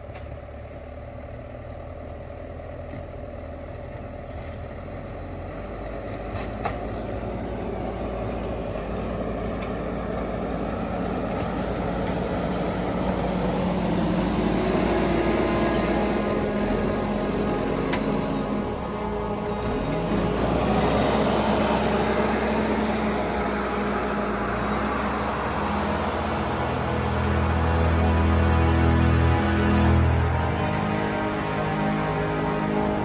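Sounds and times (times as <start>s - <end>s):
heavy machinery diesel engine running: 0.0s - 33.0s.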